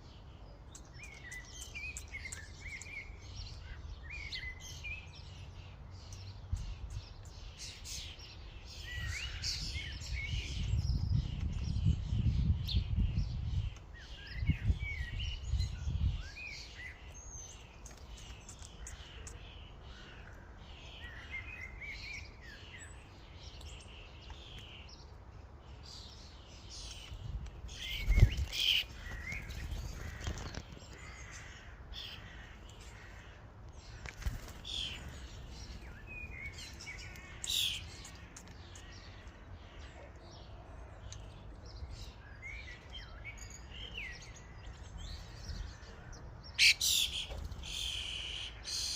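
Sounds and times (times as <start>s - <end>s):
starlings chattering and calling: 0.0s - 48.9s.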